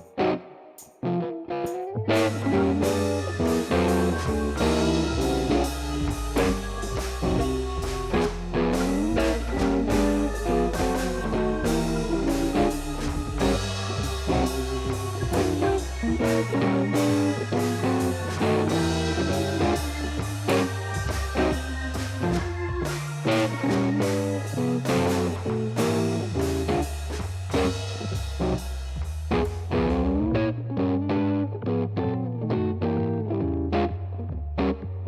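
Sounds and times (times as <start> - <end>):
guitar-led instrumental music: 0.0 - 35.0.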